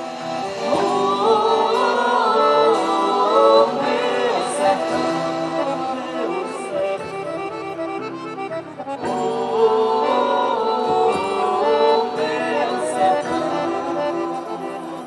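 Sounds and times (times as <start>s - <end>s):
accordion-led folk dance music: 0.0s - 15.0s.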